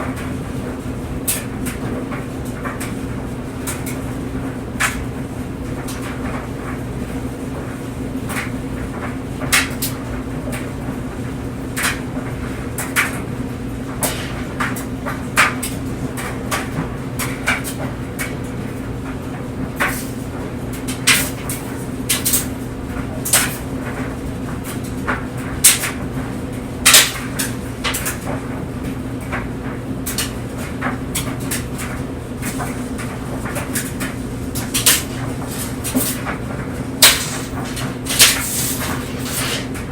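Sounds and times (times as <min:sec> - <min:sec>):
clothes dryer motor hum: 0:00.0 - 0:39.9
clothes knocking in dryer drum: 0:00.0 - 0:39.9.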